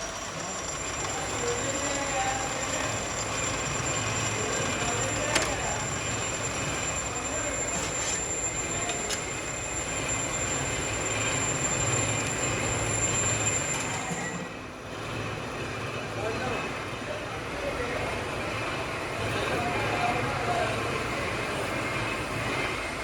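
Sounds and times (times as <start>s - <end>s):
machinery high whine: 0.0s - 23.0s.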